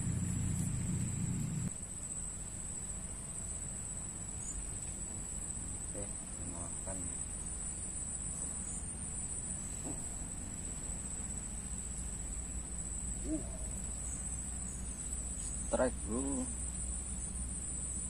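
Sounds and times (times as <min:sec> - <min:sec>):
insects trilling: 0:00.0 - 0:18.0
low background rumble: 0:00.0 - 0:18.0.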